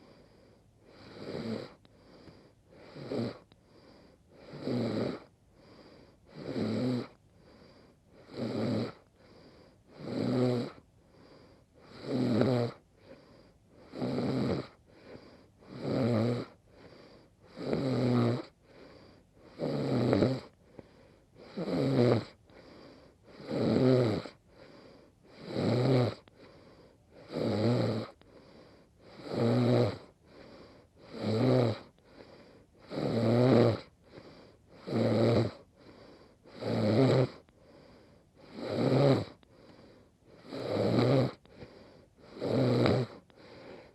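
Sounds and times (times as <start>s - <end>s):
woman snoring: 0.8s - 43.9s.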